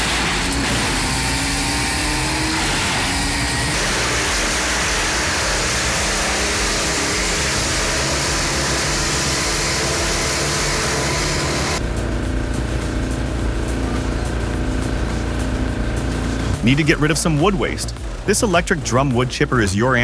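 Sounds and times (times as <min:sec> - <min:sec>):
wood chipper shredding wood: 0:00.0 - 0:17.1.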